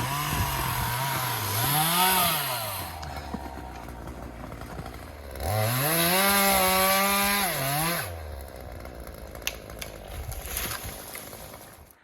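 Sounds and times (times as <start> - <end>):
chainsaw revving and idling: 0.0 - 11.9.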